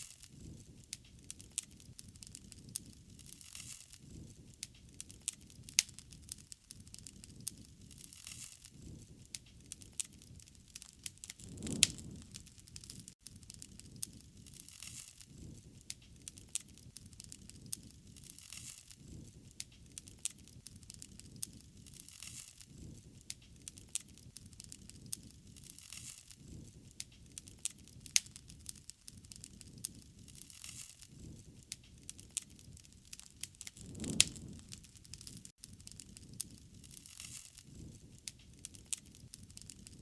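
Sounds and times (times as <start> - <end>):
wood fire crackling and popping: 0.1 - 40.0
soft rushing of fire: 0.2 - 40.0.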